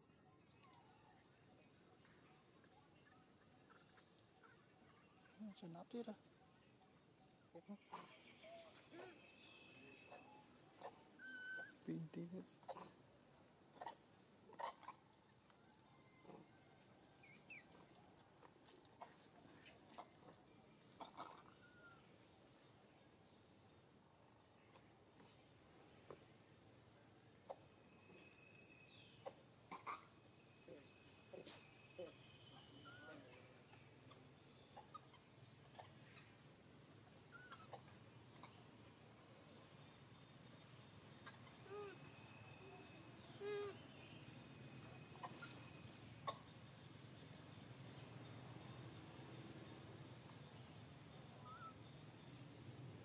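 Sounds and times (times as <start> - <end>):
faint chirps: 0.0 - 53.0.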